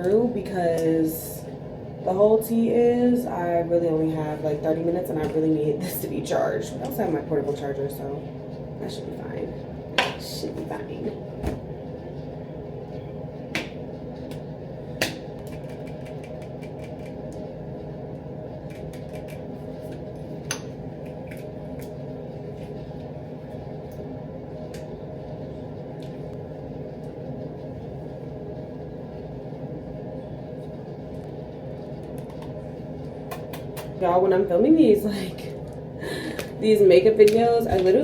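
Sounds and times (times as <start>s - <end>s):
mechanical hum: 0.0s - 38.0s.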